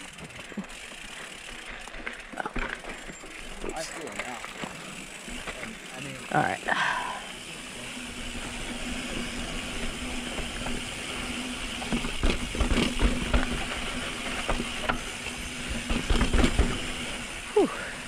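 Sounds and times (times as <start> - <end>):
bike knocking and rattling over rocks: 0.0 - 6.3, 8.2 - 17.6
bike tyre and wind noise: 0.0 - 18.0.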